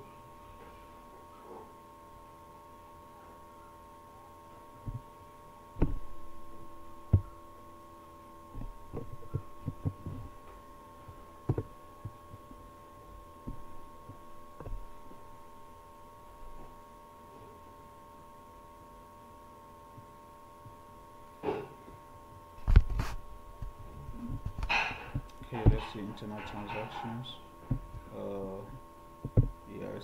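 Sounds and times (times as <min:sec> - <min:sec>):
electrical hum with tones: 0:00.0 - 0:30.0.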